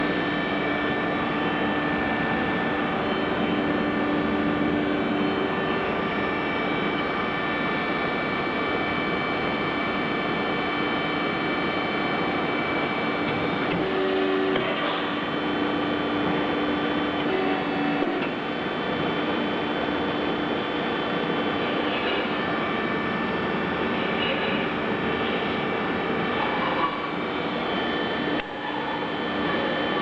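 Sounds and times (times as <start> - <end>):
welding machine humming: 0.0 - 30.0.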